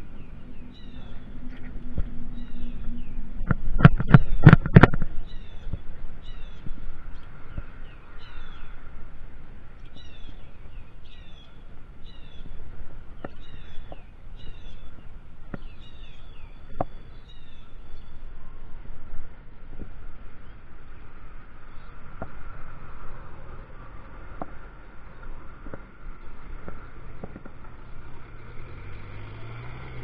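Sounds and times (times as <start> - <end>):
bike tyres rumbling on tarmac: 0.0 - 30.0
wind on microphone: 0.0 - 30.0.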